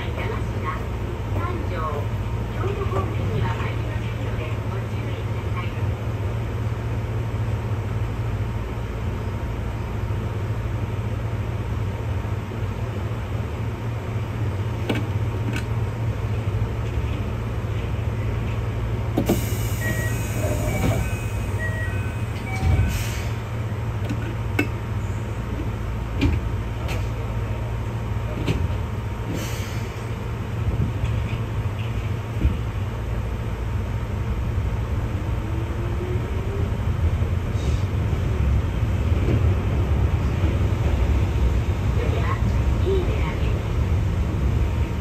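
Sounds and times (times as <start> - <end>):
electric train rumbling: 0.0 - 45.0.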